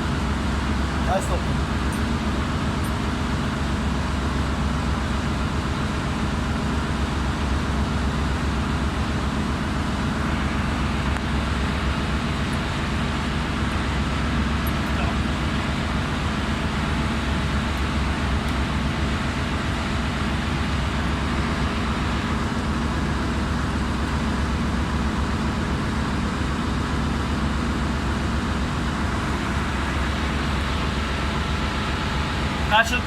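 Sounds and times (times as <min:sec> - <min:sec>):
engine room machinery drone: 0:00.0 - 0:33.0.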